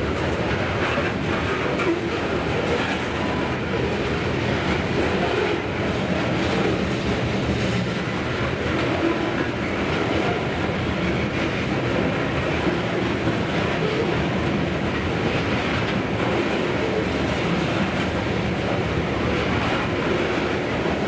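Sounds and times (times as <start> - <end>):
steel train wheels on rails: 0.0 - 21.0.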